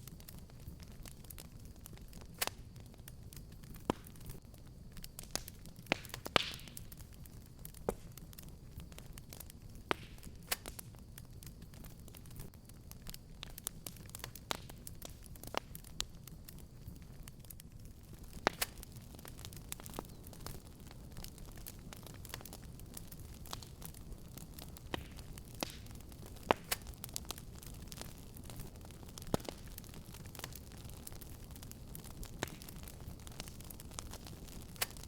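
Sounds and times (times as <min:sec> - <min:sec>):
sharp pops from fire: 0:00.0 - 0:35.0
wood fire crackling: 0:00.0 - 0:35.0.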